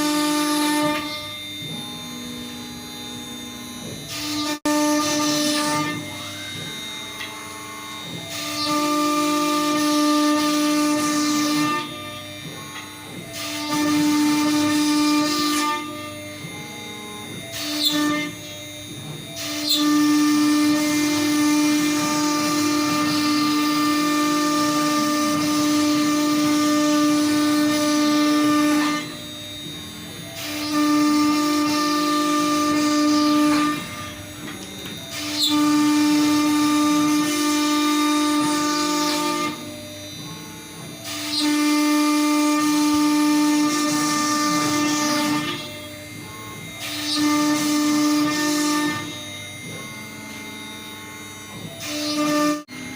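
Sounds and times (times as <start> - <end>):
router spindle cutting wood: 0.0 - 52.9.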